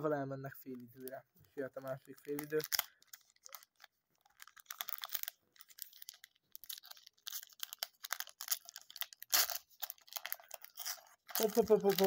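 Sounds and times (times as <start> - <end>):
foil wrapper crinkling and tearing: 1.8 - 12.0.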